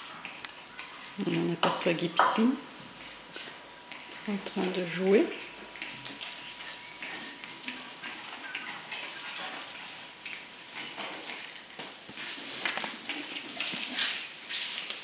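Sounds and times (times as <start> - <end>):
puppy scuffling on tiles: 0.0 - 15.0
plush toys rustling: 2.7 - 15.0.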